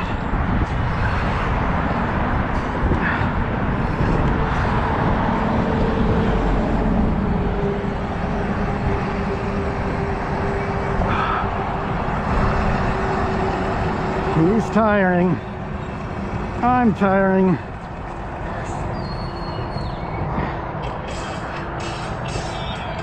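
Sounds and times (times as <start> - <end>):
faint hum of tyres: 0.0 - 23.0
traffic rumble on bridge: 0.0 - 23.0.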